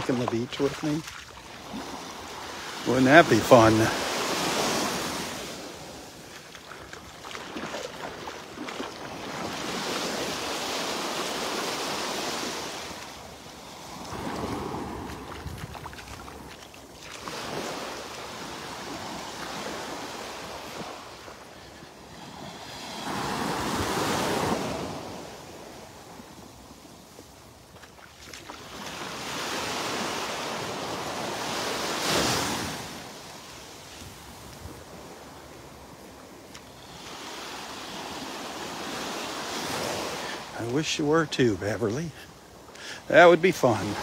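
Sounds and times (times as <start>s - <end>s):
waves washing onto sandy beach: 0.0s - 44.0s.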